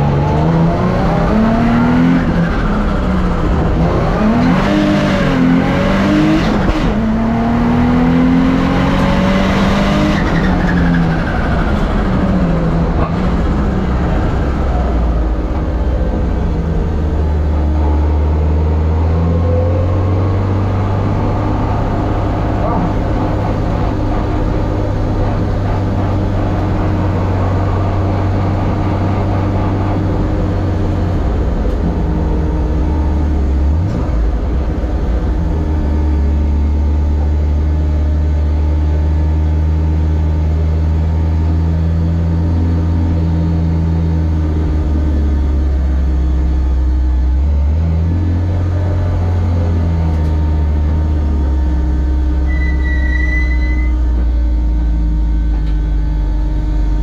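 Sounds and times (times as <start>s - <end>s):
race car engine at low revs: 0.0s - 57.0s.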